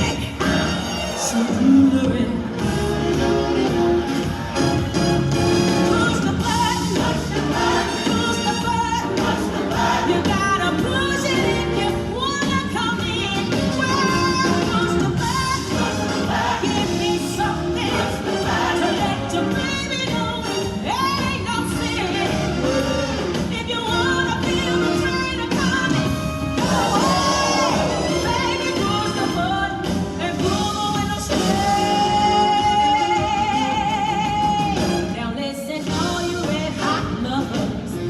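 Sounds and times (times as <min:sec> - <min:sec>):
upbeat pop-jazz song with singing: 0:00.0 - 0:38.0.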